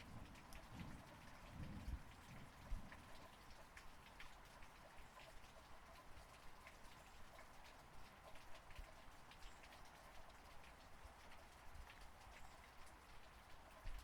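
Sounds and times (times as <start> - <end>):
raindrops ticking and splashing: 0.0 - 14.0.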